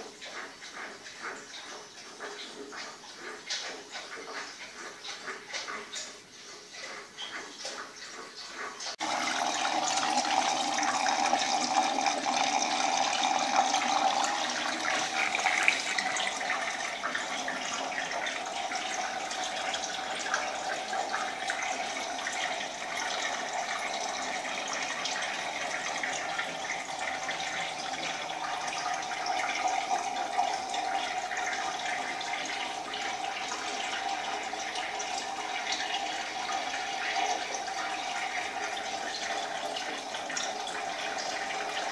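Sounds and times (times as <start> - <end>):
water pouring into a tank: 0.0 - 1.8, 8.8 - 41.9.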